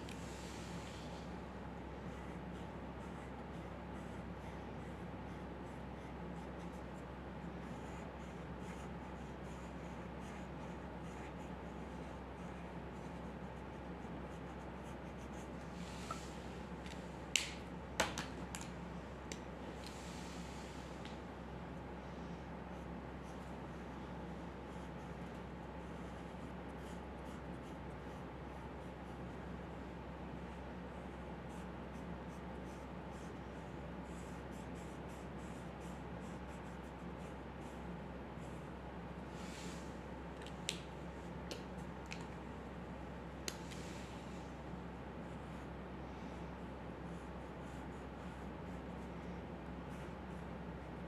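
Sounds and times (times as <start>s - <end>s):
electrical hum: 0.0s - 51.0s.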